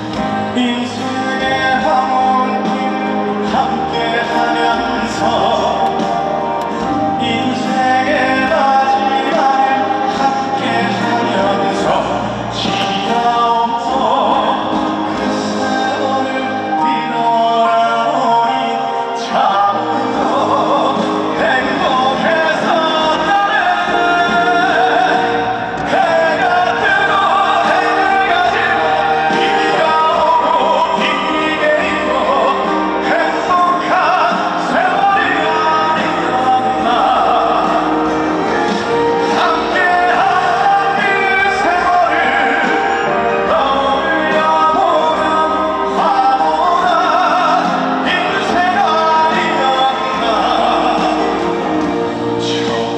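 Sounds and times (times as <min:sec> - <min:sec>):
band accompaniment: 0:00.0 - 0:52.9
man singing a ballad: 0:00.0 - 0:52.9.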